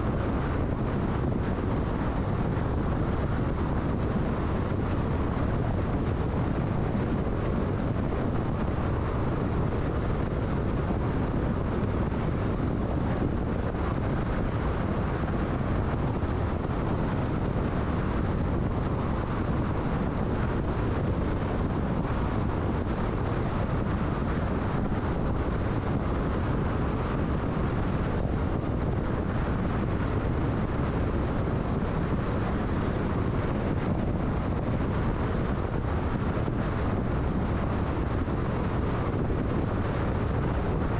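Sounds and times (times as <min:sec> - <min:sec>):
car road rumble: 0:00.0 - 0:40.9
wind rushing: 0:00.0 - 0:40.9.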